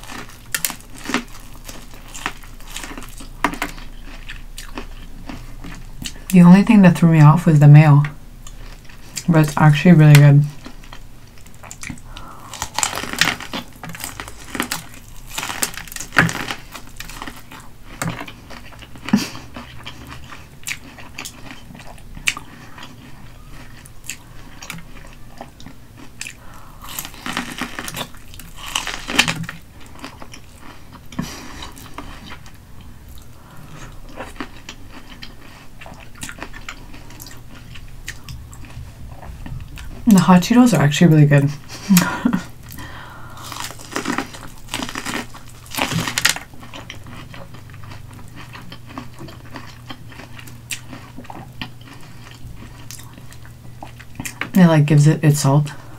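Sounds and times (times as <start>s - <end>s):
crunchy chewing: 0.0s - 6.4s, 8.4s - 9.6s, 10.2s - 54.6s.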